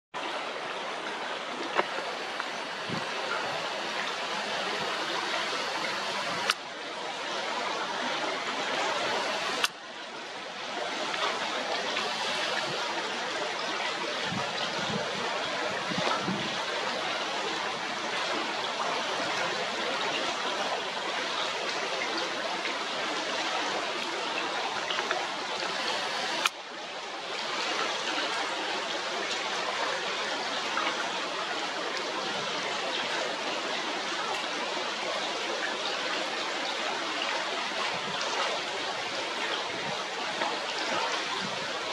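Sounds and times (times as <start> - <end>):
river water rushing: 0.2 - 41.9.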